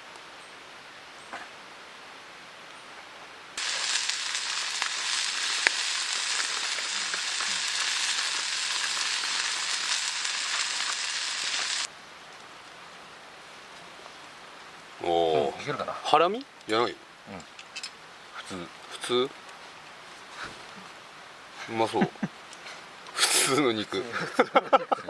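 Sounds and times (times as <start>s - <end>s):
meat sizzling over fire: 3.6s - 12.2s, 13.6s - 25.0s.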